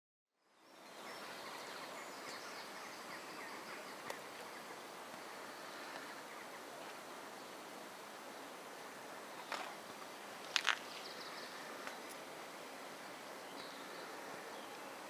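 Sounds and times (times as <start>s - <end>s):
birds chirping: 0.4s - 15.0s
faint hiss: 0.4s - 15.0s.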